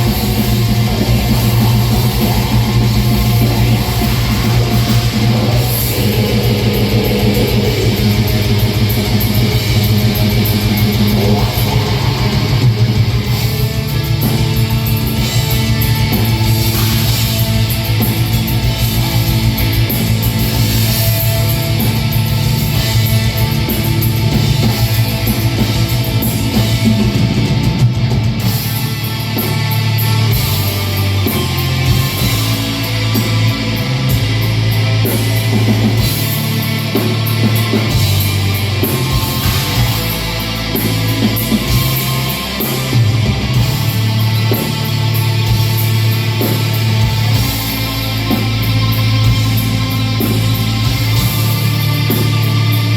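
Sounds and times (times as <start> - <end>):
distorted electric guitars: 0.0 - 52.9
fast drumming: 0.0 - 52.9.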